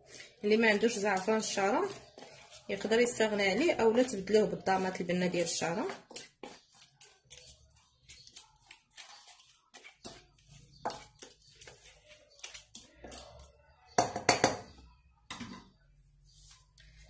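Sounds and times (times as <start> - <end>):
spatula scraping steel bowl: 0.2 - 14.0.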